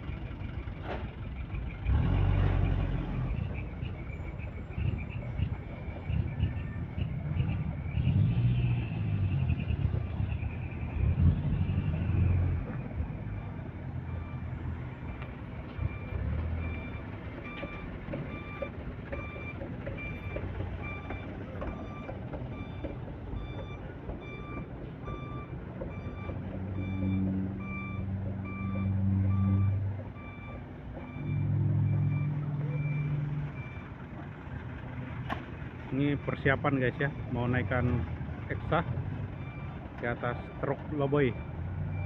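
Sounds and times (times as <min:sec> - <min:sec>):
diesel engine running: 0:00.0 - 0:42.0
reversing alarm beeping: 0:01.5 - 0:34.0, 0:38.6 - 0:42.0.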